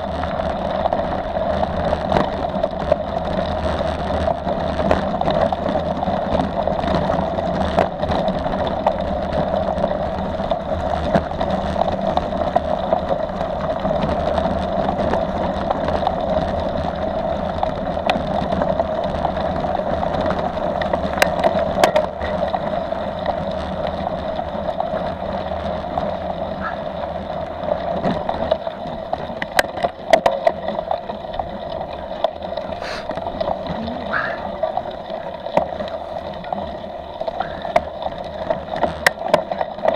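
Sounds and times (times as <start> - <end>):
bike clicks and rattles: 0.0 - 39.9
bike tyres rolling on gravel: 0.0 - 39.9.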